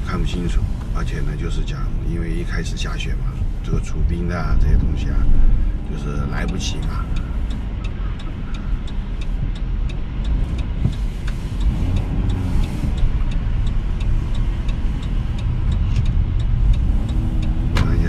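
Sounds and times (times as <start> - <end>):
car engine and tyres on wet road: 0.0 - 18.0
turn signal ticking: 0.0 - 18.0.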